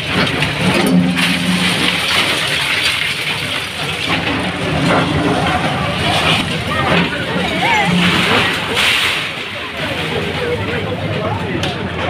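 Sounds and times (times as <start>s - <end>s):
falling debris rumble and clatter: 0.0s - 12.0s
heavy machine engine: 0.0s - 12.0s.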